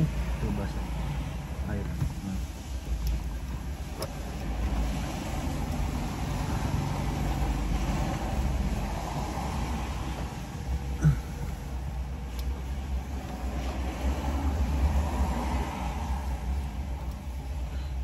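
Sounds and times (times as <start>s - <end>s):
car engine running inside cabin: 0.0s - 18.0s.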